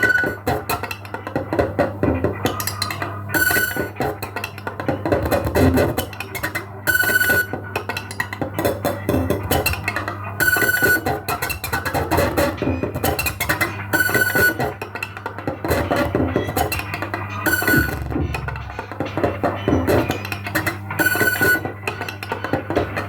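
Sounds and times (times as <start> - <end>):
instrumental music: 0.0 - 23.0.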